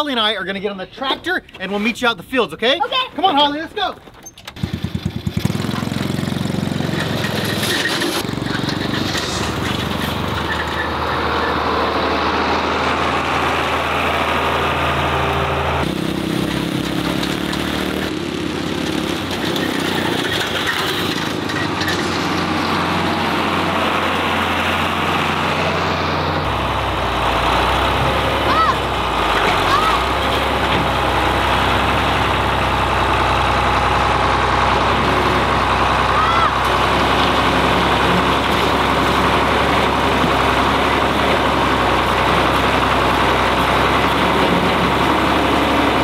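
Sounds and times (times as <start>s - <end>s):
tractor engine running: 3.3s - 46.0s.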